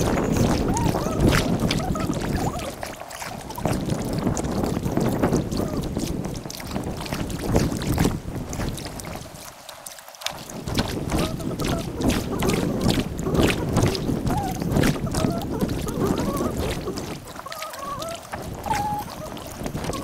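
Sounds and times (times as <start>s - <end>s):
paddle splashes: 0.0s - 20.0s
water noise: 0.0s - 20.0s
wind buffeting microphone: 0.0s - 20.0s.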